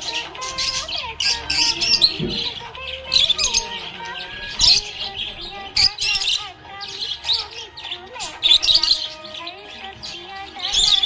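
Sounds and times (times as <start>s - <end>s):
budgerigar chirping and warbling: 0.0s - 11.0s.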